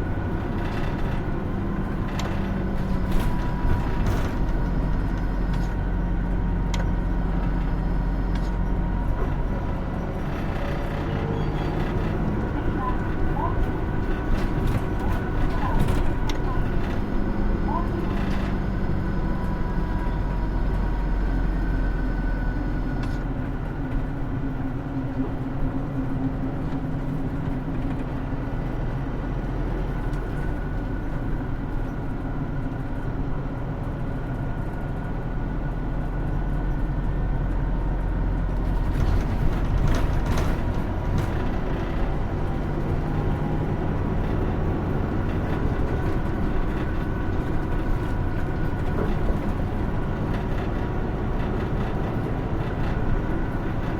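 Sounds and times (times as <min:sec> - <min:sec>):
bus engine running: 0:00.0 - 0:53.9
road and tyre noise: 0:00.0 - 0:53.9.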